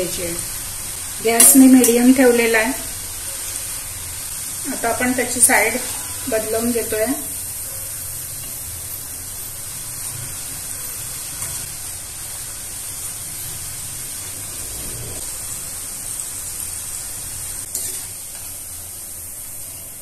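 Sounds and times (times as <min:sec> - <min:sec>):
deep-frying sizzle in oil: 0:00.0 - 0:20.0.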